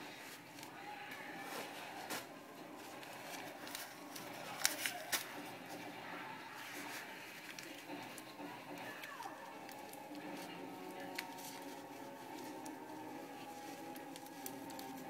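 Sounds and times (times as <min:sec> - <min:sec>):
sharp paper crinkles: 0:00.0 - 0:15.0
tissue paper rustling: 0:00.0 - 0:15.0.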